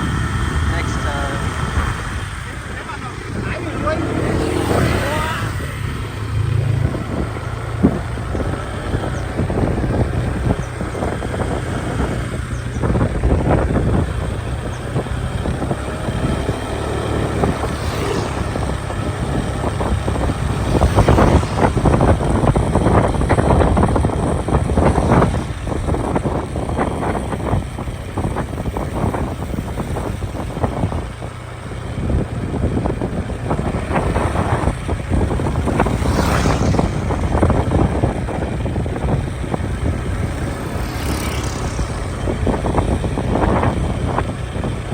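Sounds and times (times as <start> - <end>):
motorcycle running: 0.0 - 44.9
wind buffeting microphone: 0.0 - 44.9.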